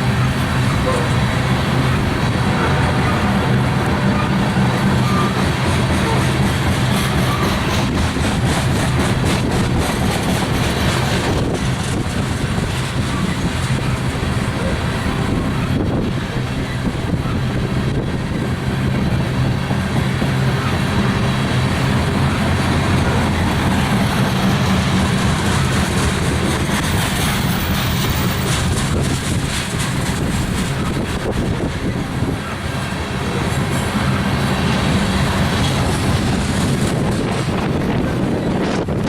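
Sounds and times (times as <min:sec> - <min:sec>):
clickety-clack of rails: 0:00.0 - 0:39.0
train wheels rumbling on rails: 0:00.0 - 0:39.0.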